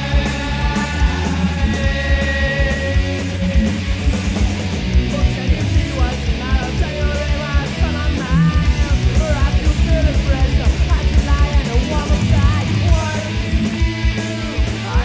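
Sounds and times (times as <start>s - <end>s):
bass guitar: 0.0s - 15.0s
distorted electric guitars: 0.0s - 15.0s
fast driving drumbeat: 0.0s - 15.0s
person singing: 0.0s - 15.0s.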